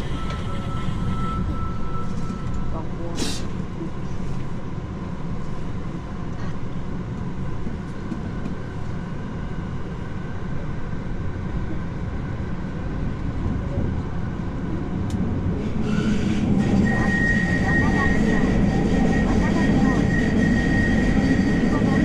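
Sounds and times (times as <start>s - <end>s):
subway train rumbling in tunnel: 0.0s - 22.0s.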